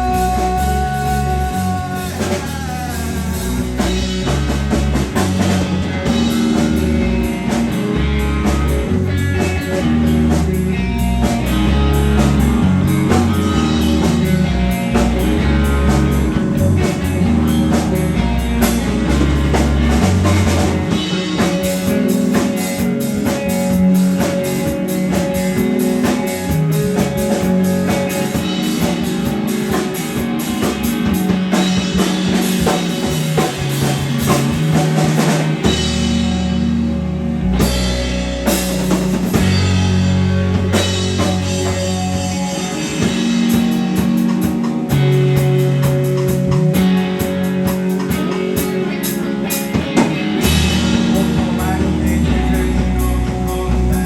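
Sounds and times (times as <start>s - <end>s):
bass guitar: 0.0s - 54.0s
drum kit: 0.0s - 54.0s
electric guitar: 0.0s - 54.0s.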